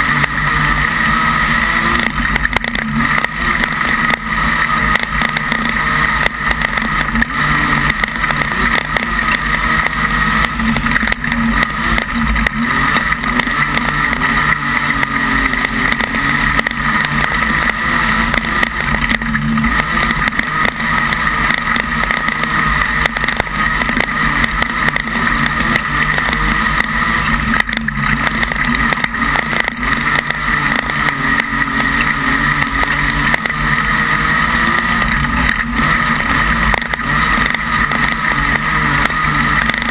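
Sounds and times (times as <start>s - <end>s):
race car engine at high revs: 0.0s - 39.9s
small clicks and knocks: 1.9s - 39.9s.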